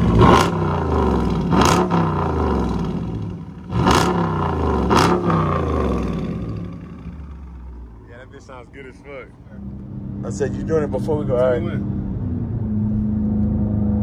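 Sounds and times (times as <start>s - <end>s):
car engine idling: 0.0s - 13.1s
car engine revving: 0.0s - 14.0s.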